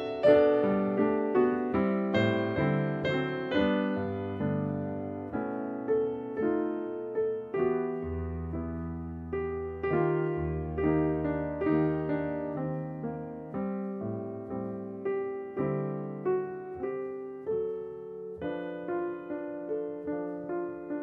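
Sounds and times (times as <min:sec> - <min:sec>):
solo piano melody: 0:00.0 - 0:21.0.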